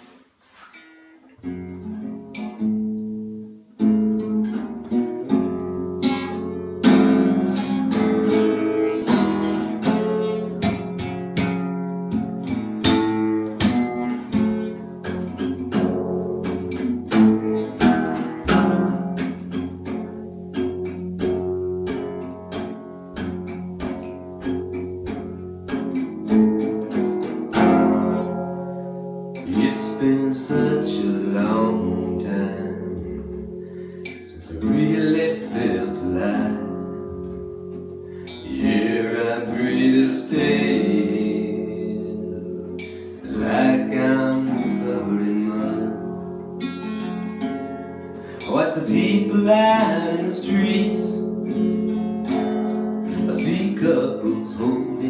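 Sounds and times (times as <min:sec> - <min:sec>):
acoustic guitar strumming chords: 0:00.0 - 0:55.0.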